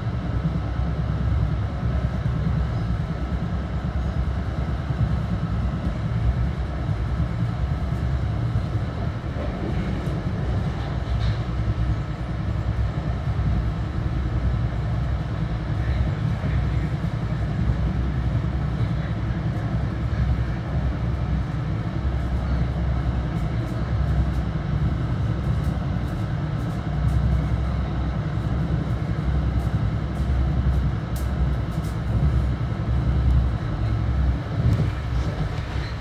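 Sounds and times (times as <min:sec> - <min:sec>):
wheels rumbling on rails: 0:00.0 - 0:36.0.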